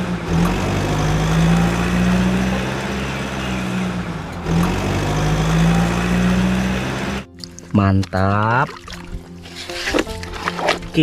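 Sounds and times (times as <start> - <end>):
vehicle engine humming: 0.0 - 9.5.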